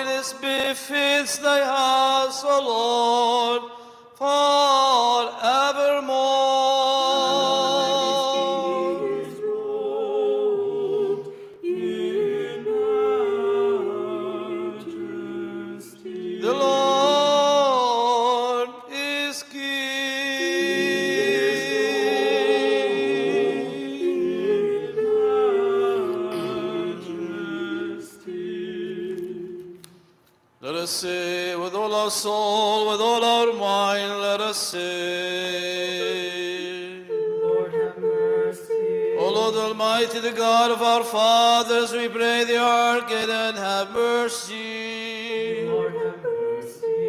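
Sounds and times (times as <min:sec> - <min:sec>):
choir singing a cappella: 0:00.0 - 0:47.0.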